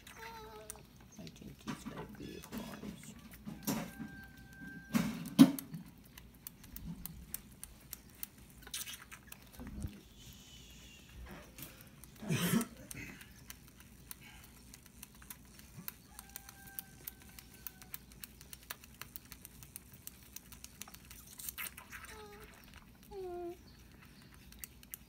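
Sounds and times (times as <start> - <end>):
fawn sucking on bottle nipple: 0.0 - 25.0.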